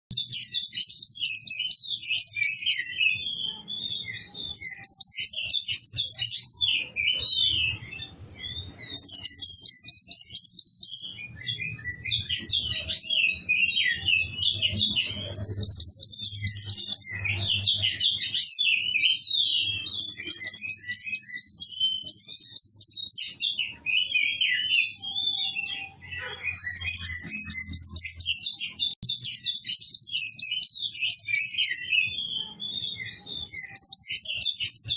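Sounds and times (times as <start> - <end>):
bird twittering: 0.1 - 34.9
songbird singing buzzy trills: 0.1 - 34.9.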